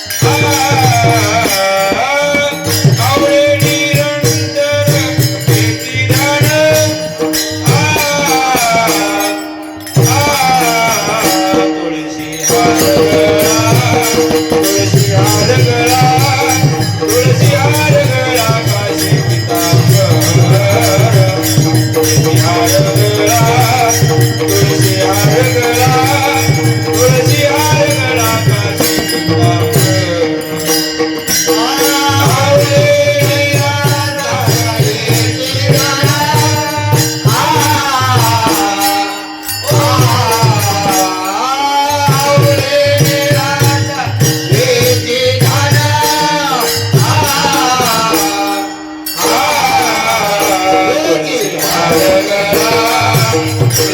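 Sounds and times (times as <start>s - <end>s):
man singing devotional melody: 0.0s - 53.9s.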